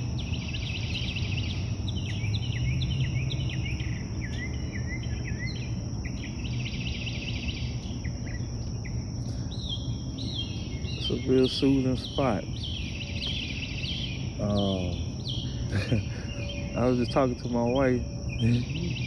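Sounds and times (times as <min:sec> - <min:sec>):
birds chirping and singing: 0:00.0 - 0:19.0
insect-like hiss: 0:00.0 - 0:19.0.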